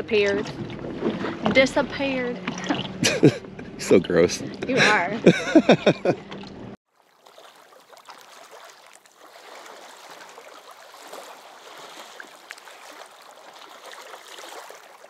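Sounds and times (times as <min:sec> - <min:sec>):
water lapping and trickling: 0:00.0 - 0:15.0.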